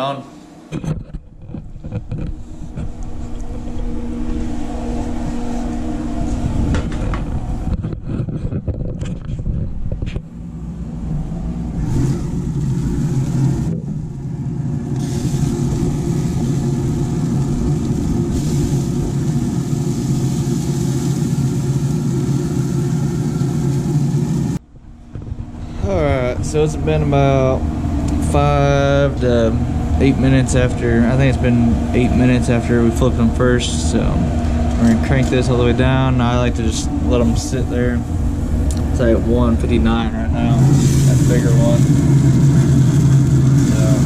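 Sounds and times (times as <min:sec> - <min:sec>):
mechanical hum with hiss: 0:00.0 - 0:44.0
handling rumble: 0:00.6 - 0:44.0.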